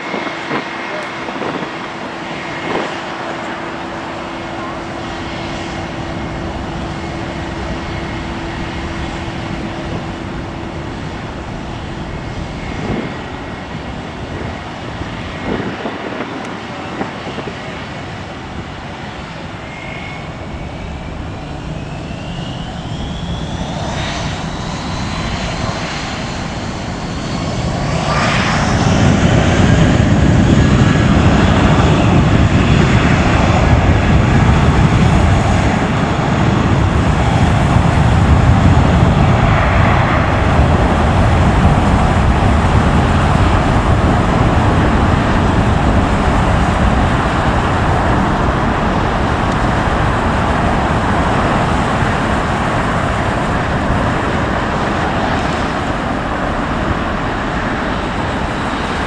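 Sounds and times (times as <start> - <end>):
jet engine whine and roar: 0.0 - 59.0.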